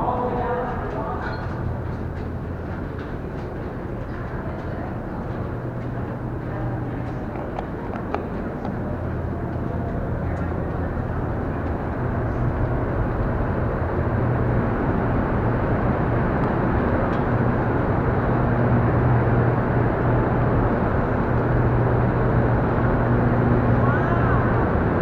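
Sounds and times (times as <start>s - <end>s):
generator hum: 0.0s - 25.0s.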